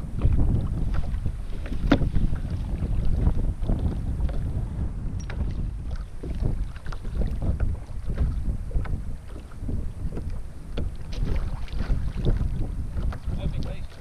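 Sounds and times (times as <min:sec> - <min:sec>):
waves slapping kayak hull: 0:00.0 - 0:14.0
wind buffeting microphone: 0:00.0 - 0:14.0.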